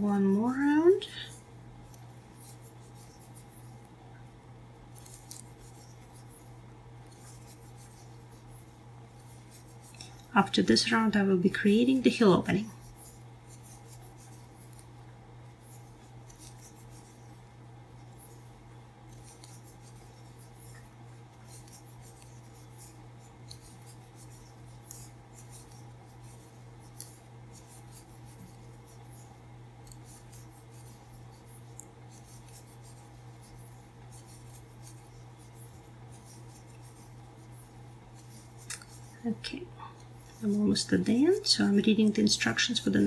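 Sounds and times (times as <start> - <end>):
crochet hook scratching yarn: 0.0 - 3.9, 4.9 - 43.0
steady low hum: 0.0 - 43.0.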